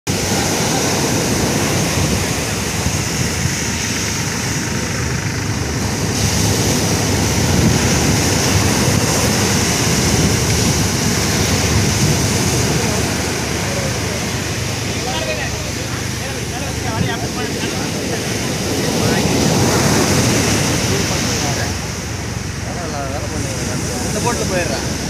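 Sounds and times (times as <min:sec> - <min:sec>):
sea waves washing around boat: 0:00.1 - 0:25.0
wind buffeting microphone: 0:00.1 - 0:25.0.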